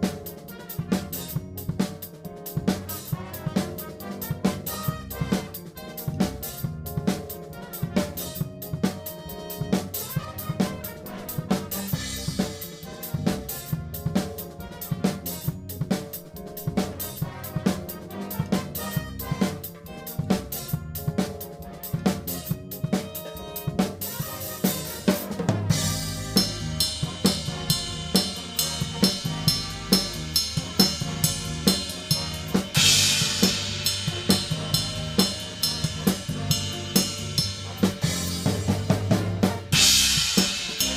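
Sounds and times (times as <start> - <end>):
big band playing: 0.0 - 40.9
drum kit playing: 0.0 - 40.9.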